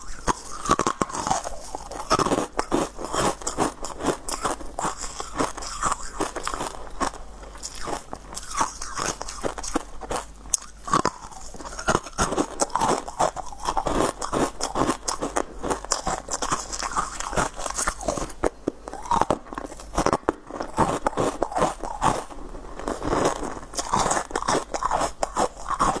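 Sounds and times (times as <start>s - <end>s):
person crunching ice: 0.0s - 26.0s.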